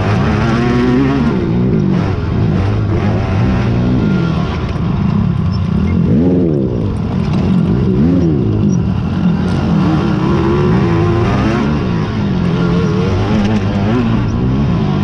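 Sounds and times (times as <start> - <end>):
quad engines revving: 0.0 - 15.0.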